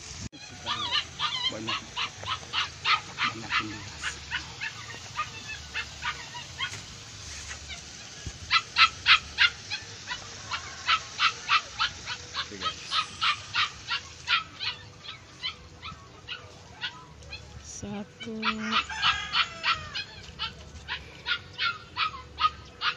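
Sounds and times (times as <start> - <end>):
animal yapping: 0.4 - 22.9.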